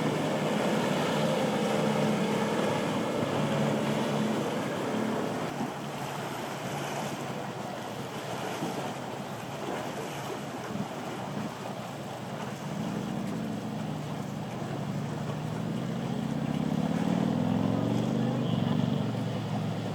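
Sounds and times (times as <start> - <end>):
motorboat engines: 0.0 - 19.9
waves washing: 0.0 - 19.9.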